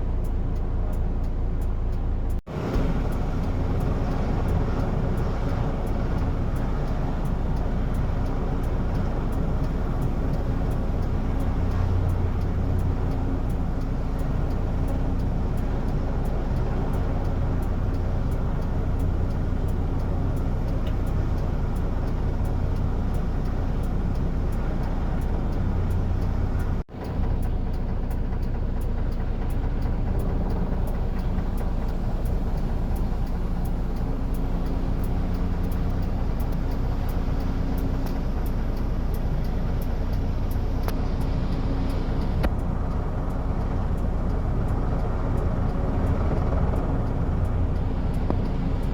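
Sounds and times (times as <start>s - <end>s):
engine drone with low hum: 0.0s - 48.9s.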